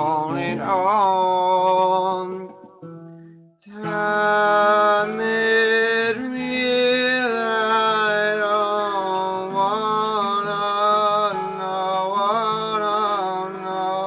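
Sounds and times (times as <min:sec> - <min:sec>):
person singing wordlessly: 0:00.0 - 0:02.8, 0:03.6 - 0:14.0
acoustic guitar: 0:00.0 - 0:14.0.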